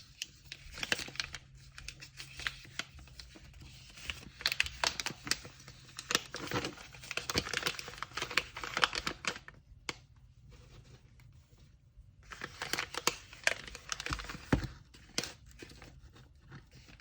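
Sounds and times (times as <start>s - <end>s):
paper crinkling and rustling: 0.0s - 9.6s, 10.5s - 17.0s.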